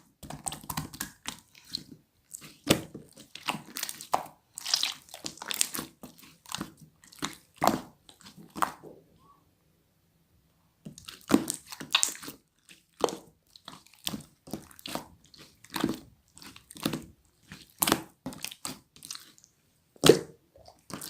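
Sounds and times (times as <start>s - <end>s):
slime squelching by hand: 0.0s - 8.9s, 10.8s - 21.0s.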